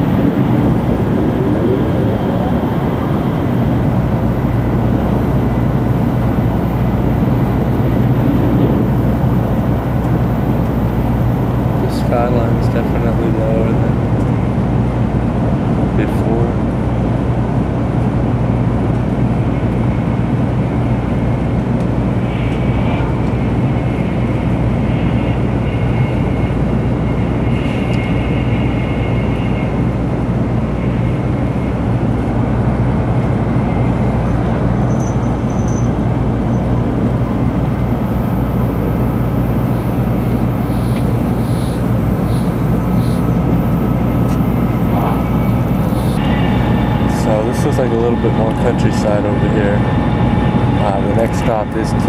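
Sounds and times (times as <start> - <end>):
constant low hum: 0.0 - 52.0
train running noise: 0.0 - 52.0.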